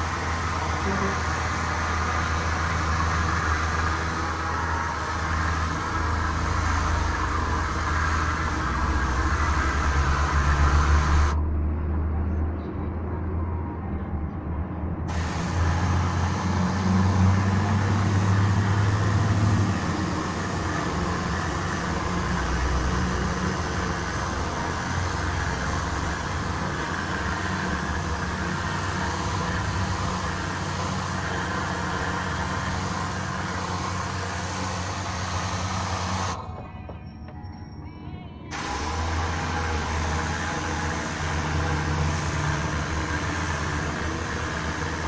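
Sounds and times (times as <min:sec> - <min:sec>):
compressed air gun hissing: 0:00.0 - 0:11.4, 0:15.1 - 0:36.4, 0:38.5 - 0:45.0.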